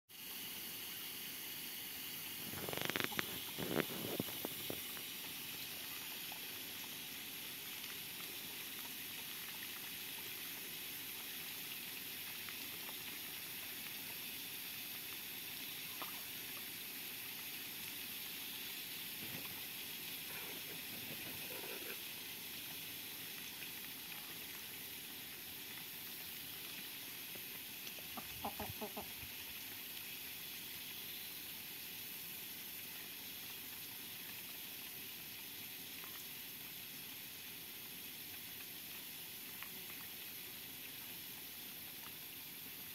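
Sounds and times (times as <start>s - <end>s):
background hiss: 0.1s - 42.9s
ducks dabbling and slurping: 0.4s - 42.8s.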